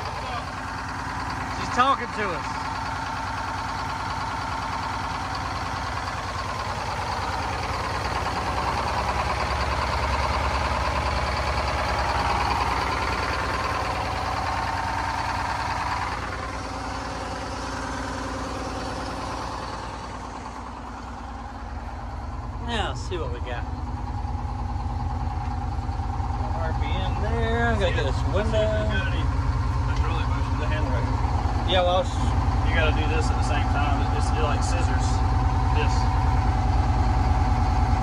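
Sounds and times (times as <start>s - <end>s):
dredge engine running: 0.0s - 38.0s.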